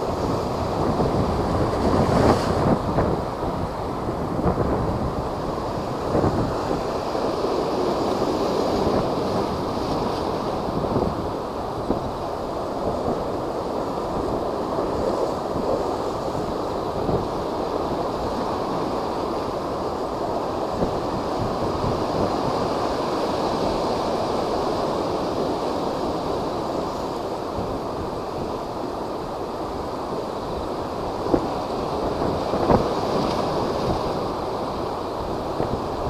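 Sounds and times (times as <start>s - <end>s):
heavy surf breaking: 0.0s - 36.0s
wind buffeting microphone: 0.0s - 36.0s.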